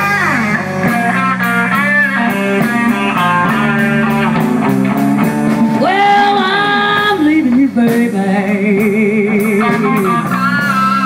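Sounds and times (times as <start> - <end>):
electric guitar solo: 0.0 - 11.0
slow blues band: 0.0 - 11.0.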